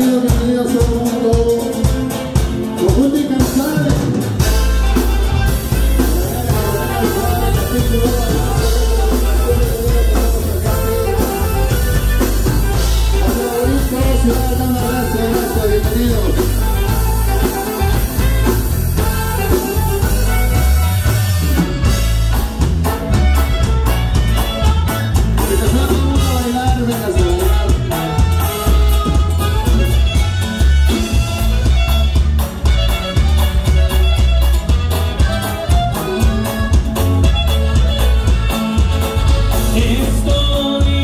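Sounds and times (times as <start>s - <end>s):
saxophone band music: 1.8s - 41.0s.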